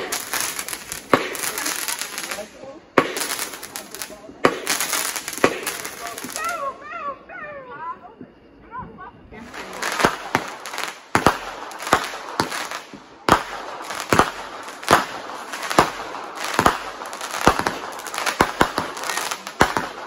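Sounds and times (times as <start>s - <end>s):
fireworks bangs: 0.0s - 6.9s, 9.4s - 20.0s
fireworks hissing and crackling: 0.0s - 6.9s, 9.3s - 20.0s.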